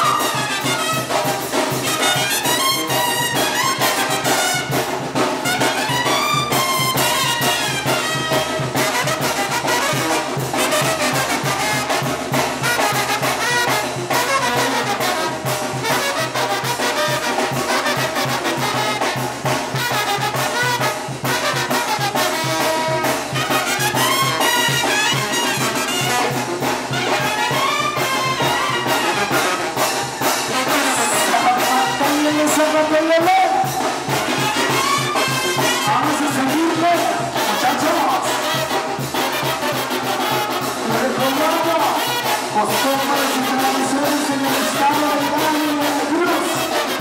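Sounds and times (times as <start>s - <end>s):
drums and percussion: 0.0s - 47.0s
trumpets and trombones: 0.0s - 47.0s.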